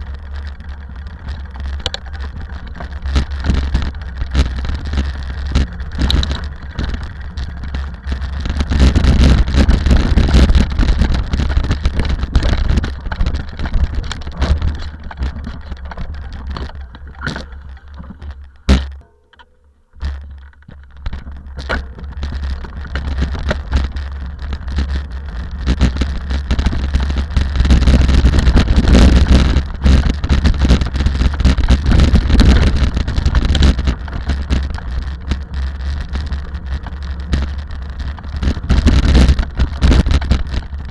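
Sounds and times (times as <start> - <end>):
rally car engine running hard: 0.0 - 19.0, 21.7 - 40.9
road noise: 0.0 - 40.9.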